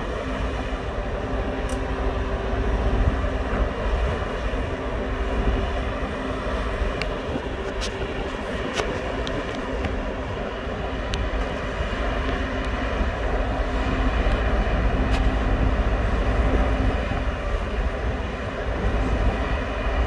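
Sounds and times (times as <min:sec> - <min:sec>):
engines and machinery rumbling: 0:00.0 - 0:20.0
steady hum: 0:00.0 - 0:20.0.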